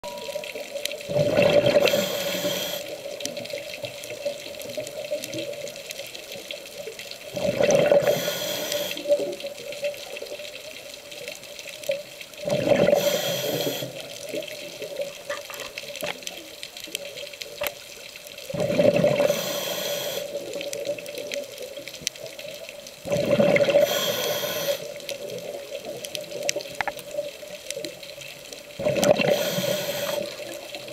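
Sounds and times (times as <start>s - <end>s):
exhaled bubbles underwater: 0.0s - 6.3s, 7.2s - 10.5s, 12.0s - 17.7s, 18.4s - 30.9s.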